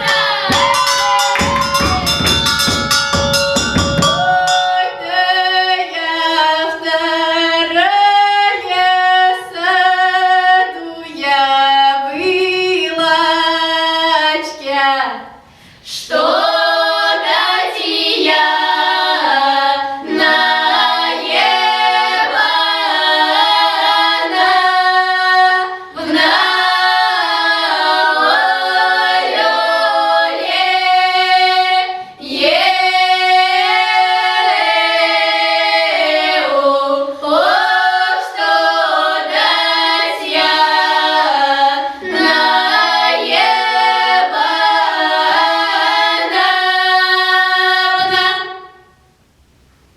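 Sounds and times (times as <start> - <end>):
children's choir singing: 0.0 - 49.0.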